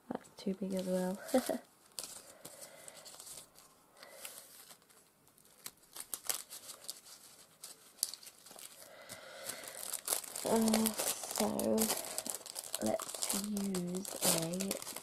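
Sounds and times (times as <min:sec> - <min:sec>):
plastic packets crinkling: 0:00.8 - 0:15.0.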